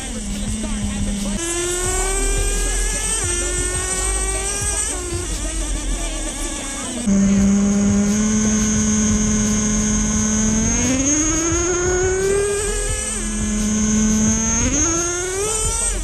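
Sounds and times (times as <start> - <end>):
nitro engine revving: 0.0 - 16.0.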